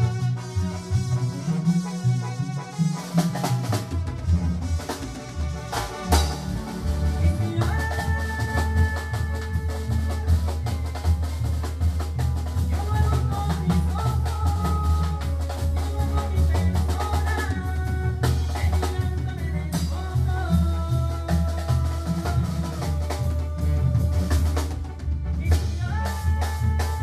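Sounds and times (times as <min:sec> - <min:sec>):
drum kit beat: 0:00.0 - 0:27.0
heavy bass: 0:00.0 - 0:27.0.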